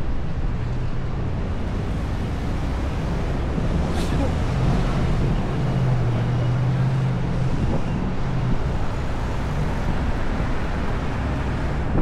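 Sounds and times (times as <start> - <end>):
city traffic passing: 0.0 - 12.0
low engine hum: 0.0 - 12.0.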